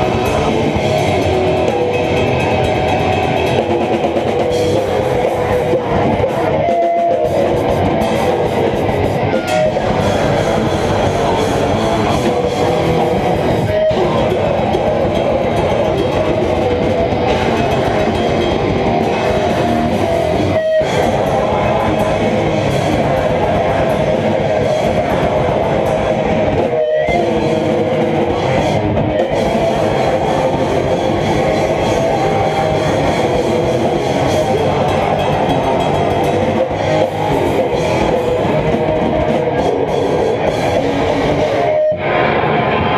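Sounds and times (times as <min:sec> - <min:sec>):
distorted electric guitar: 0:00.0 - 0:42.9
drums: 0:00.0 - 0:42.9
grindcore band playing live: 0:00.0 - 0:42.9.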